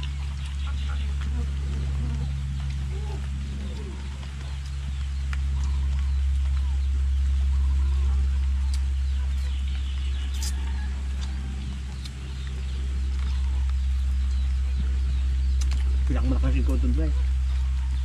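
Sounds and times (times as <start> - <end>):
frogs calling in low drone: 0.0 - 18.0.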